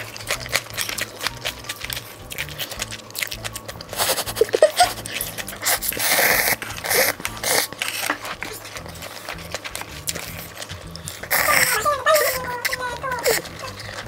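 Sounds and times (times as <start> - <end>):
chewing and biting: 0.0 - 14.0.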